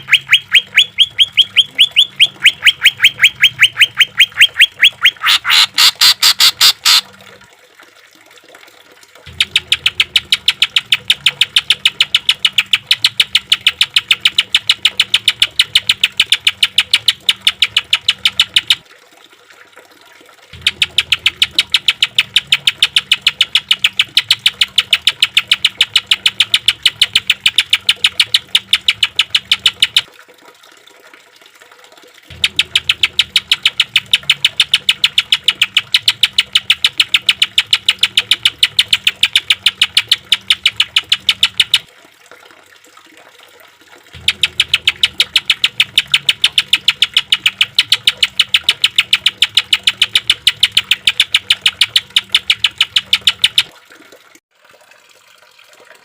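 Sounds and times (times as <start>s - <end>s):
bird rapid-fire song: 0.0s - 7.0s, 9.3s - 18.8s, 20.6s - 30.1s, 32.3s - 41.9s, 44.2s - 53.7s.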